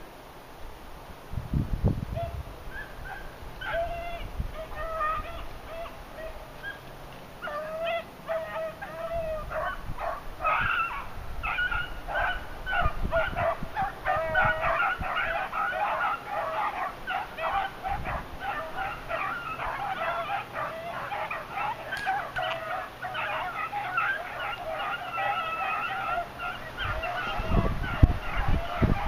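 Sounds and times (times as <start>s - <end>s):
beagles baying: 2.2s - 29.0s.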